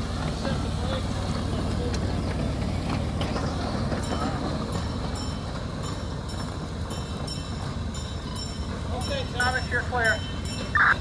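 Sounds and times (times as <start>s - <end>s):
miniature train rumbling: 0.0s - 11.0s
wheels clicking on track: 0.0s - 11.0s.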